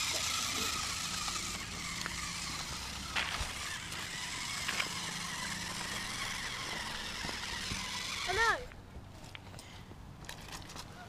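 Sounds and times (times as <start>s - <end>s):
small electric motor and gears whirring: 0.0s - 9.4s.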